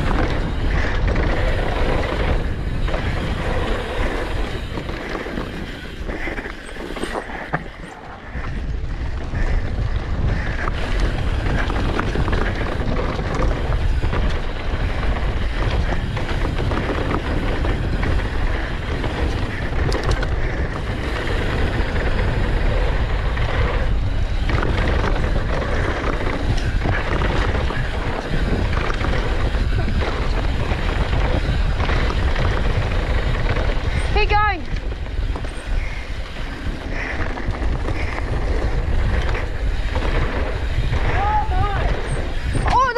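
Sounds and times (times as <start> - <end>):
bike clicks and knocks: 0.0 - 42.9
bike tyres rolling over gravel: 0.0 - 42.9
wind on microphone: 0.0 - 42.9.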